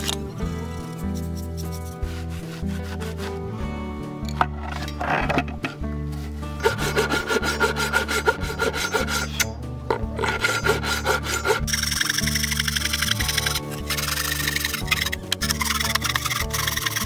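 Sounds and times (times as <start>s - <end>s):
hand saw cutting wood: 0.0s - 3.6s, 6.6s - 17.0s
faint background music: 0.0s - 17.0s.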